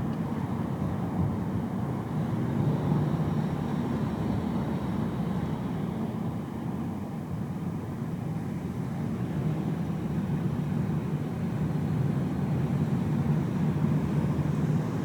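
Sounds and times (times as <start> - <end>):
road and engine drone in car: 0.0 - 15.0.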